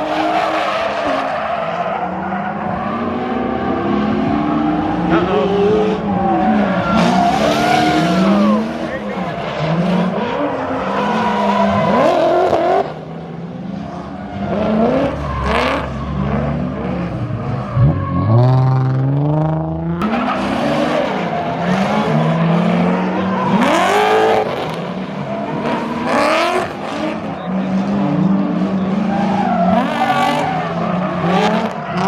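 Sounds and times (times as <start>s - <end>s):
car engines revving hard: 0.0s - 32.0s.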